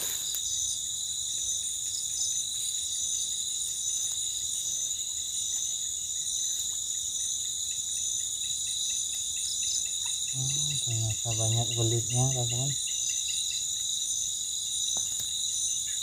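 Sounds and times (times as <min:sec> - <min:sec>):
crickets trilling: 0:00.0 - 0:16.0
faint pulsing insect chirps: 0:00.0 - 0:16.0.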